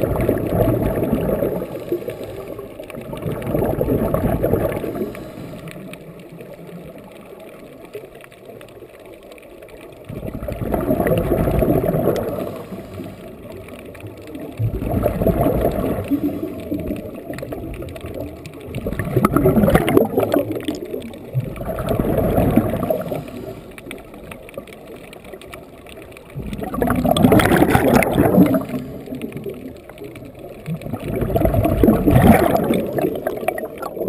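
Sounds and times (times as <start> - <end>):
underwater gurgling bubbles: 0.0 - 34.0.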